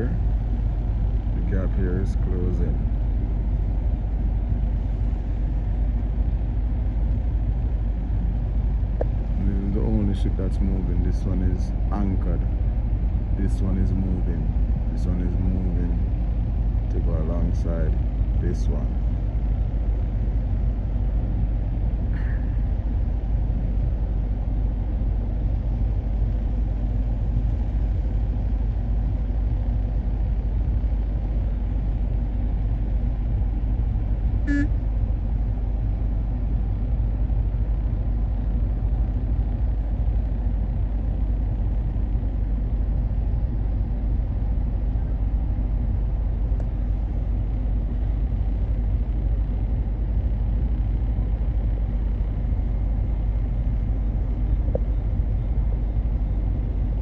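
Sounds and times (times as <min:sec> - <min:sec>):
boat engine rumble: 0:00.0 - 0:57.0.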